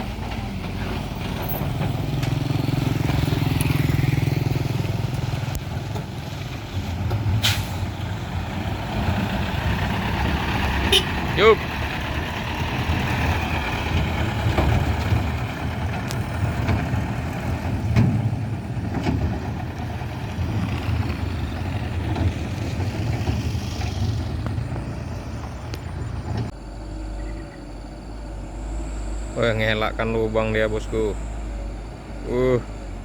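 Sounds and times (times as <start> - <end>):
diesel truck engine rumbling: 0.0 - 33.0.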